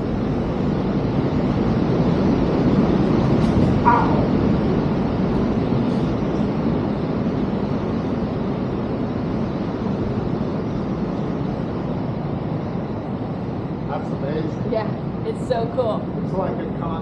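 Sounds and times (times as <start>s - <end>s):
waves echoing in a sea cave: 0.0s - 17.0s.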